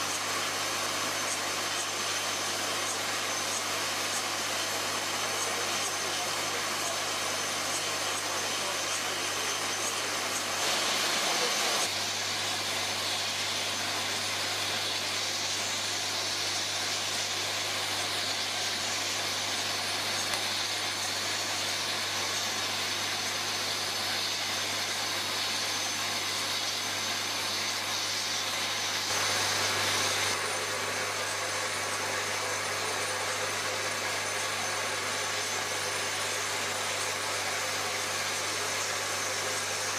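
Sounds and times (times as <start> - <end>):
bottle sorting machine humming: 0.0 - 39.9.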